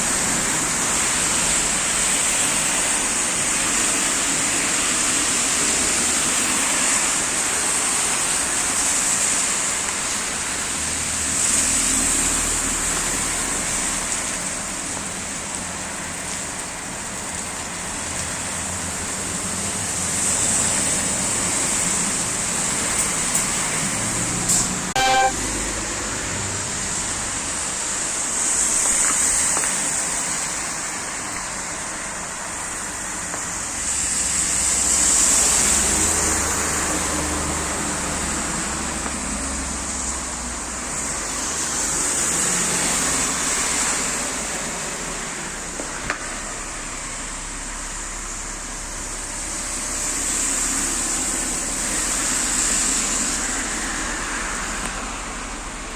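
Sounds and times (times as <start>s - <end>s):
hiss of tyres and engines: 0.0s - 55.9s
vehicles passing: 0.0s - 55.9s.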